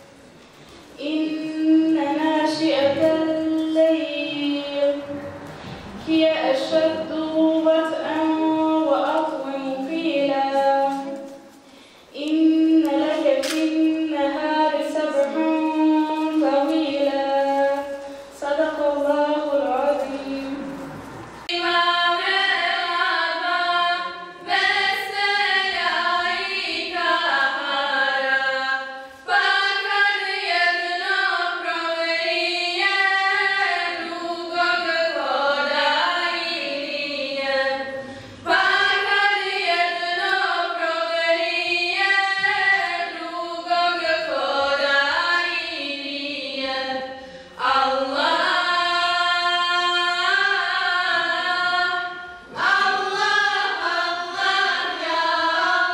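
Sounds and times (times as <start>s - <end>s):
choir singing devotional song: 1.0s - 11.6s, 12.2s - 55.9s.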